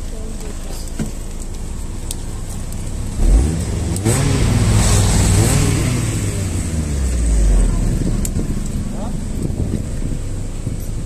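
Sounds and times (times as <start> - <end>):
car engine revving: 1.8 - 11.0.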